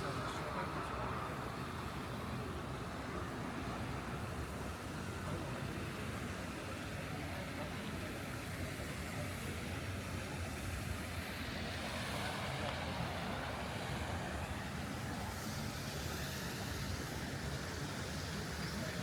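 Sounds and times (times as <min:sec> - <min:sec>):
hum of traffic: 0:00.0 - 0:19.0.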